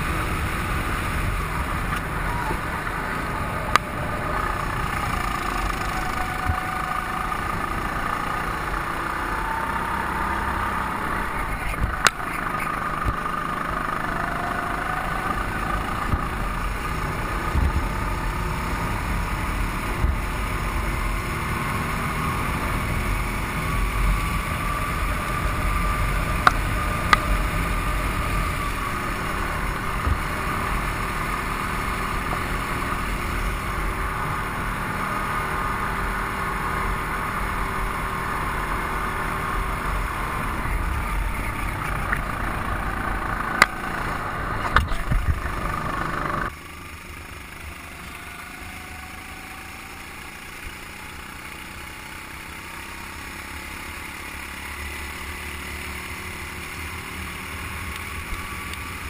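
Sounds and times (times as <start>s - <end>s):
go-kart engine rasping: 0.0s - 59.0s.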